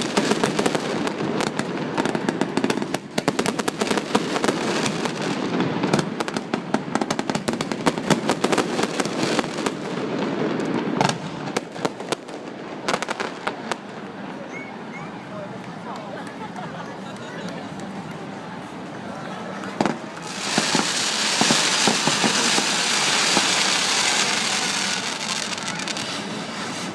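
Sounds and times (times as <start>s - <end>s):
fireworks crackling and banging: 0.0s - 26.9s.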